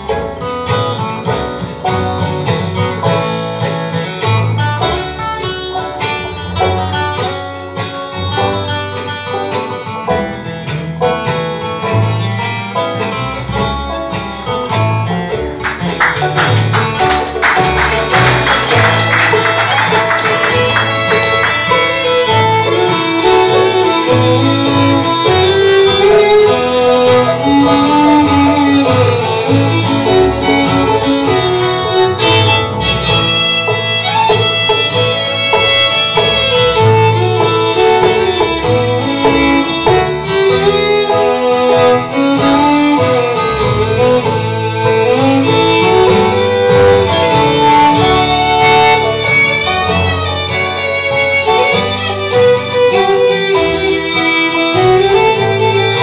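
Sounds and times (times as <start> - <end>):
fiddle melody: 0.0 - 56.0
guitar backing: 0.0 - 56.0
plucked banjo: 0.0 - 56.0
upright bass: 0.0 - 56.0.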